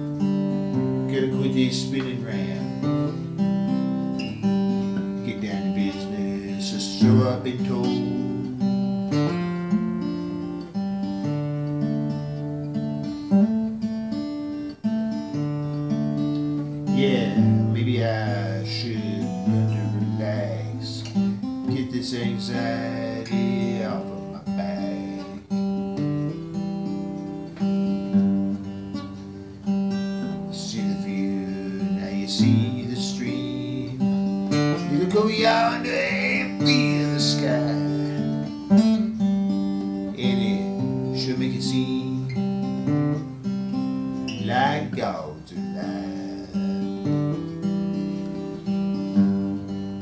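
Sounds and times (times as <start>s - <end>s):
acoustic guitar strumming chords: 0.0s - 50.0s.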